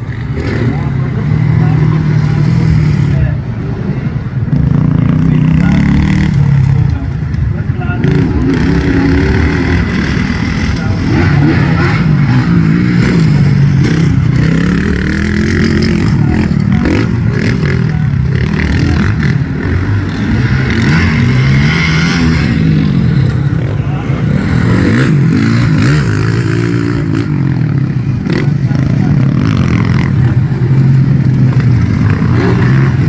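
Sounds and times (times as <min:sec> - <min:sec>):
motocross bike engines revving: 0:00.0 - 0:33.0.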